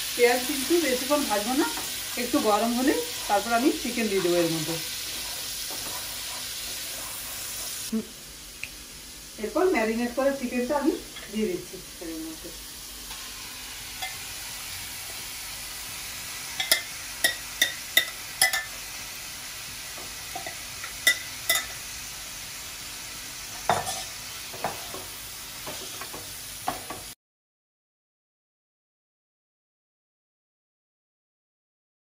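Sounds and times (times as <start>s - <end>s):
chicken sizzling in oil: 0.0s - 27.2s.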